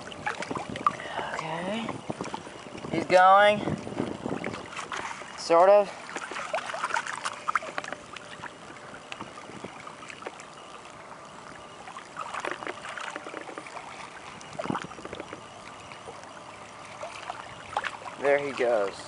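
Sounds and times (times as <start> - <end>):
small water splashes: 0.0 - 19.0
water sloshing and lapping: 0.0 - 19.0.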